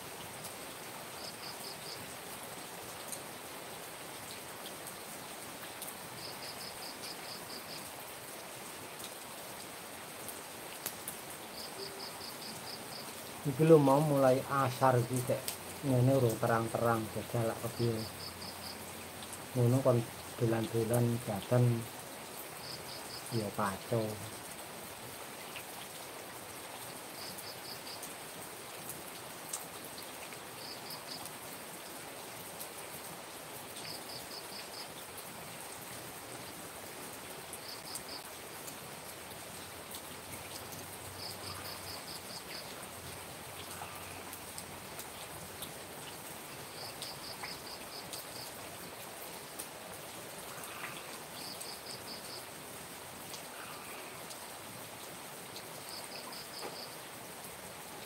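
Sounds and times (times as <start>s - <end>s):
rain falling and dripping: 0.0s - 58.0s.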